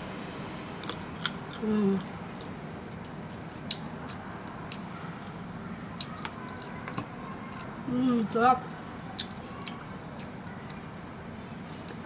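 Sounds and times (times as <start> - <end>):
low background hum: 0.0 - 12.0
person chewing crunchy fruit: 0.8 - 11.0.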